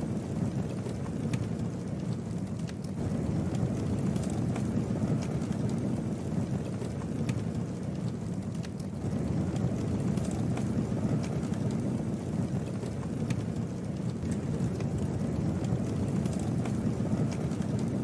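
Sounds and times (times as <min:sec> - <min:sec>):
rush of flames: 0:00.0 - 0:18.0
wood crackling and popping: 0:00.0 - 0:18.0.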